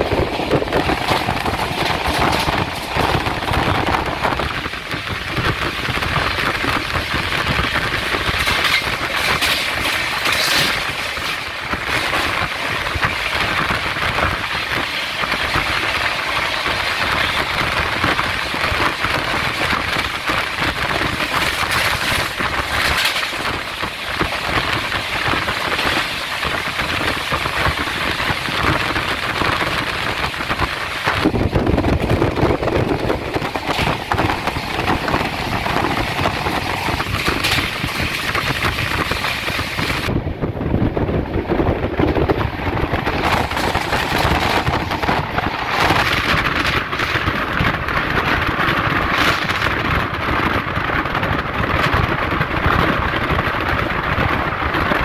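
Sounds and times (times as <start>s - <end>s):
rushing air: 0.0s - 55.0s
train wheels rumbling and rattling: 0.0s - 55.0s.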